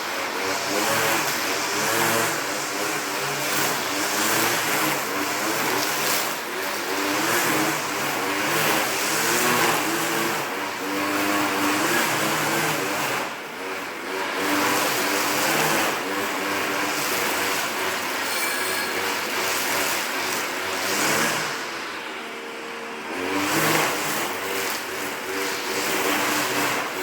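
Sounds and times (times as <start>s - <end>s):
grass trimmer cutting grass: 0.0s - 27.0s.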